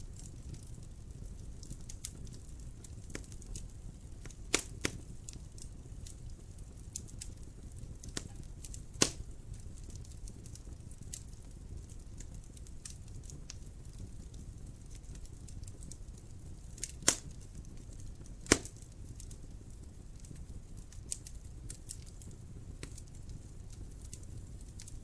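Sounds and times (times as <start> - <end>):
fire popping and snapping: 0.0 - 25.0
fire rumbling: 0.0 - 25.0.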